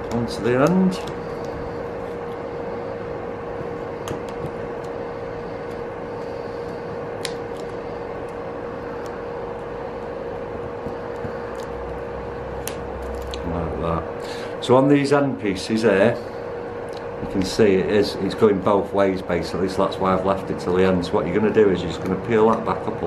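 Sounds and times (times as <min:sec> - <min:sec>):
electric fan hum: 0:00.0 - 0:23.0.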